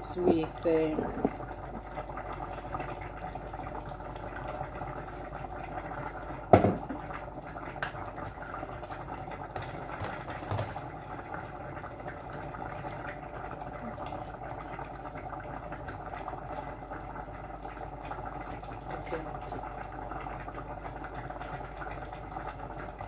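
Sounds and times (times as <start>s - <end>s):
stew bubbling in a pot: 0.0s - 23.0s.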